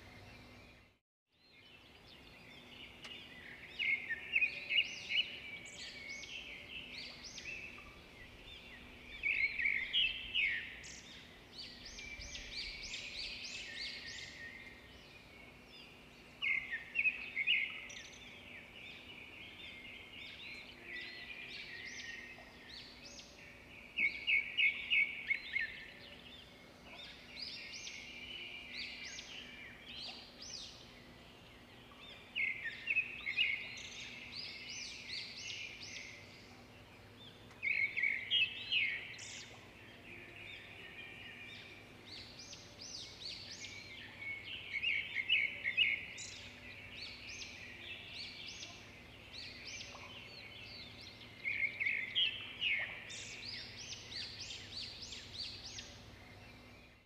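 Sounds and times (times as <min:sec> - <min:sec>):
small birds chirping: 0:00.0 - 0:57.0
faint steady hum: 0:01.7 - 0:57.0.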